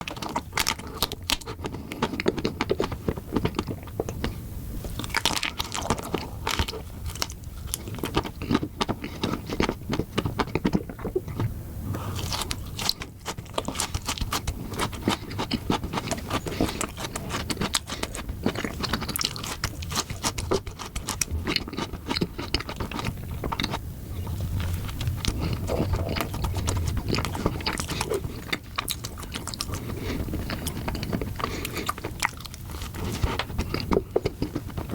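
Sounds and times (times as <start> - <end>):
person chewing chocolate: 0.0 - 34.9.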